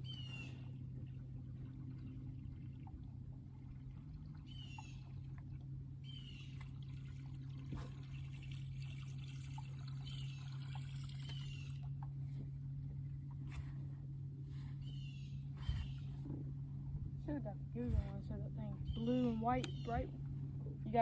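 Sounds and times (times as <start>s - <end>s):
low hum: 0.0s - 21.0s
water trickling and lapping: 0.0s - 21.0s.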